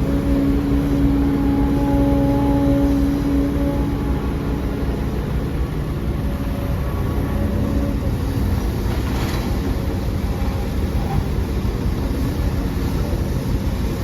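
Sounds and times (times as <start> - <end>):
diesel earthmoving machinery running: 0.0 - 14.0.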